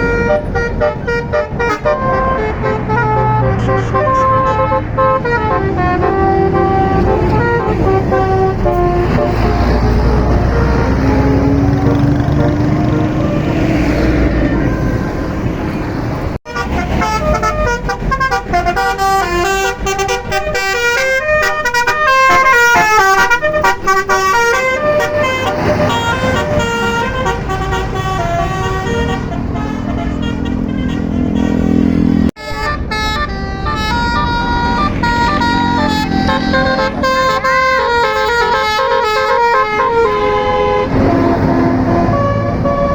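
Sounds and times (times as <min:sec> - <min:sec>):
bus melody horn playing tune: 0:00.0 - 0:15.5, 0:16.4 - 0:42.9
bus engine rumbling: 0:00.0 - 0:42.9.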